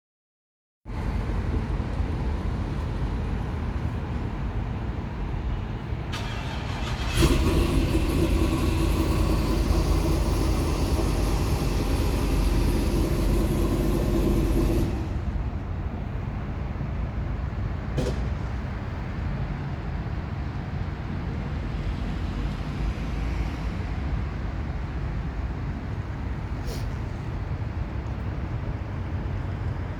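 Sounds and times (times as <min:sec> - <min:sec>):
engine hum: 0:00.9 - 0:29.9
motor traffic rumble: 0:00.9 - 0:29.9.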